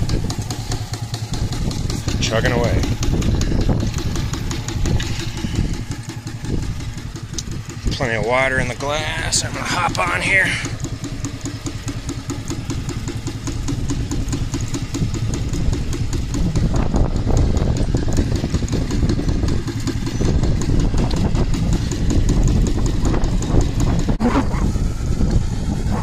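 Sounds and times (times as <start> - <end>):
low mechanical rumble: 0.0 - 26.0
steam engine exhaust chuffing: 0.0 - 26.0.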